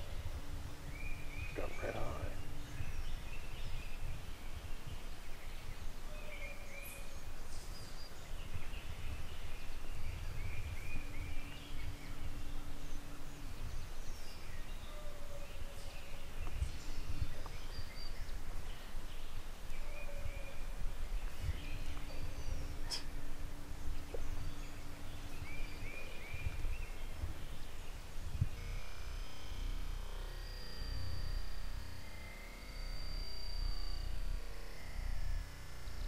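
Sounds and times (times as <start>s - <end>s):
faint steady hum: 0.0s - 36.0s
songbirds chirping and singing: 0.0s - 36.0s.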